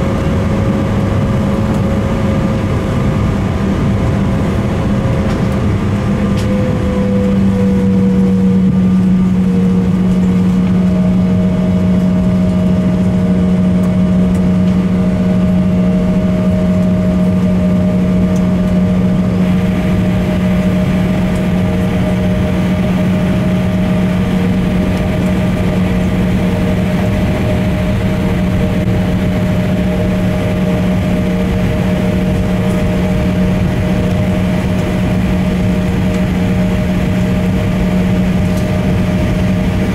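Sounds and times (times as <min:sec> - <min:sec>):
jet engines droning: 0:00.0 - 0:39.9
high whining tones: 0:04.8 - 0:39.9.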